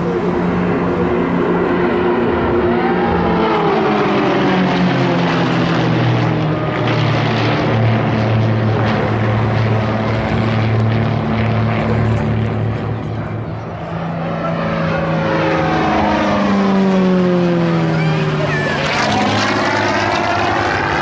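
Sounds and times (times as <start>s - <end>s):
propeller aircraft droning: 0.0s - 21.0s.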